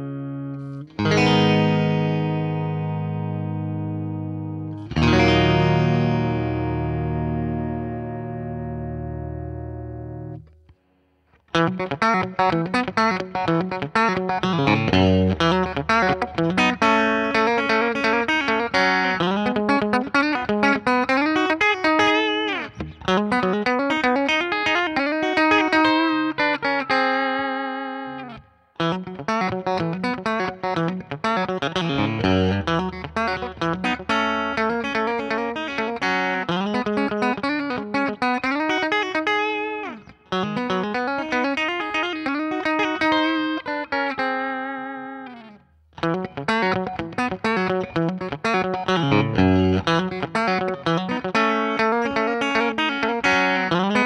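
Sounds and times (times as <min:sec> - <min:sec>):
electric guitar lead with string bends: 0:00.0 - 0:54.0.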